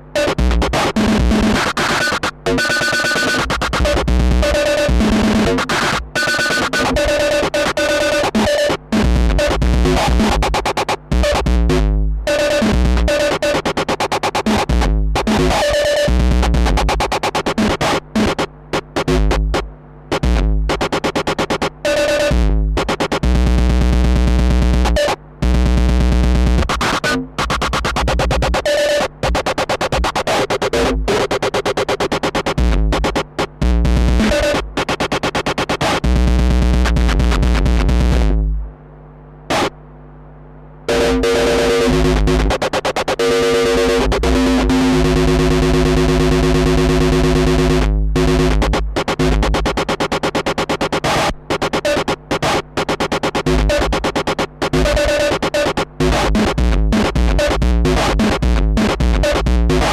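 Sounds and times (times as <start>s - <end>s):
distorted drum machine beat: 0.0s - 38.7s, 40.9s - 59.9s.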